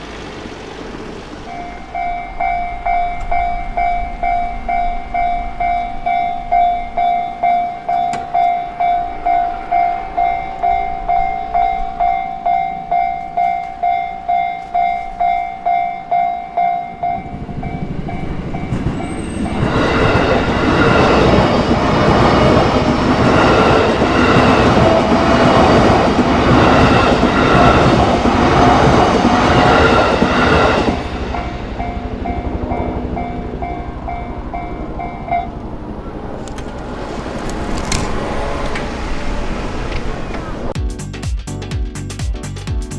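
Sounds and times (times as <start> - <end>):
crossing warning bell ringing: 0.0 - 40.8
train passing over rails: 0.0 - 40.8.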